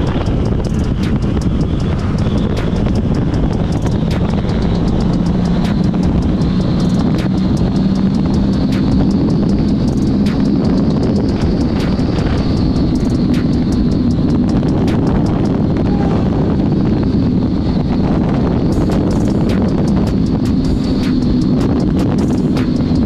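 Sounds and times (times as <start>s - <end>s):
motorcycle engine cruising: 0.0s - 23.0s
road rumble: 0.0s - 23.0s
wind rushing over microphone: 0.0s - 23.0s.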